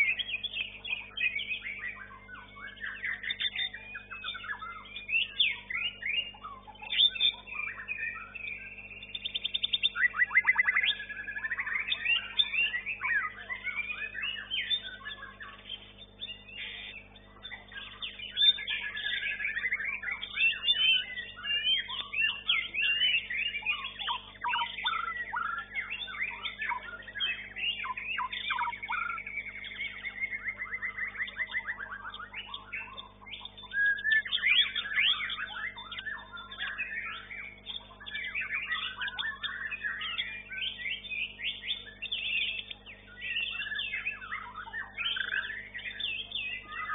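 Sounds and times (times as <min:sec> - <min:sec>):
bird singing whistles and trills: 0:00.0 - 0:46.9
faint steady hum: 0:00.0 - 0:46.9.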